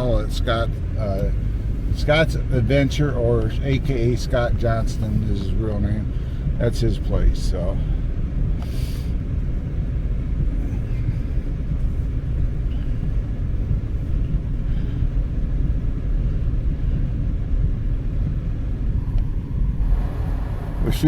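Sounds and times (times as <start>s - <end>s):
car interior road and engine noise: 0.0s - 21.0s.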